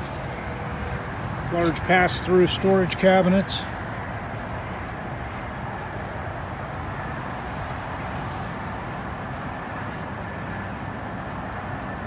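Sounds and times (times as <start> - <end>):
freeway traffic roar: 0.0 - 12.0.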